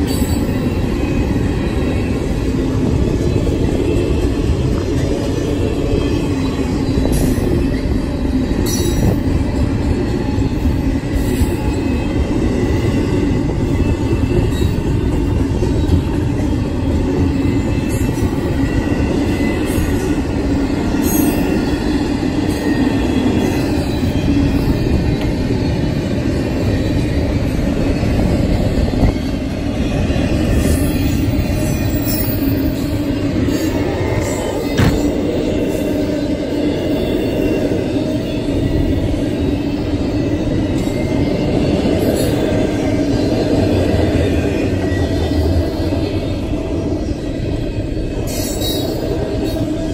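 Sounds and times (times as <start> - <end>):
steel wheels rumbling on rail: 0.0 - 49.9.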